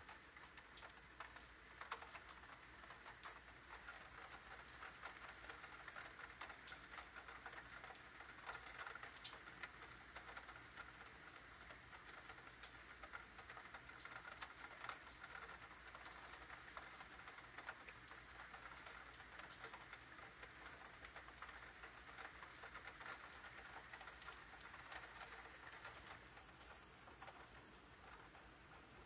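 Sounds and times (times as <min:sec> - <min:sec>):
faint rain pattering: 0:00.0 - 0:29.0.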